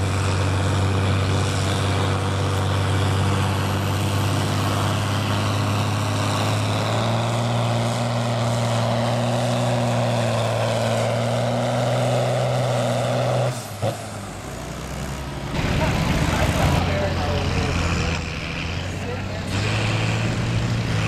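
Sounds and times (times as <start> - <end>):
tractor engine at full load: 0.0 - 21.0.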